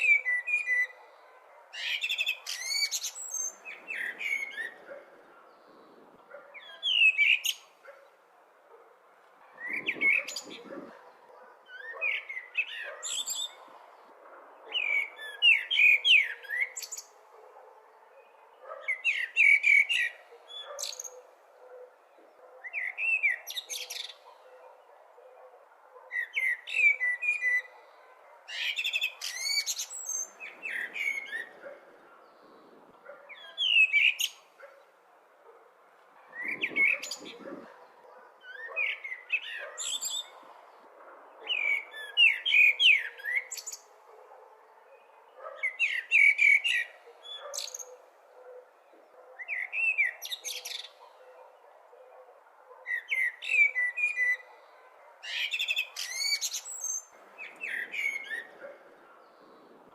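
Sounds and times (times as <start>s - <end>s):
blackbird singing: 0.0s - 8.2s, 9.6s - 13.8s, 14.6s - 17.1s, 18.1s - 34.8s, 36.3s - 40.6s, 41.4s - 43.9s, 44.9s - 52.2s, 52.8s - 59.8s.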